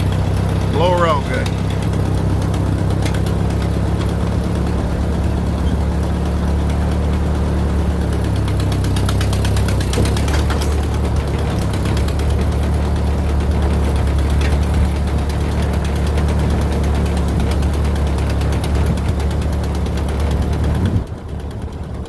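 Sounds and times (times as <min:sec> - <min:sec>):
engine idling with ticking: 0:00.0 - 0:22.0.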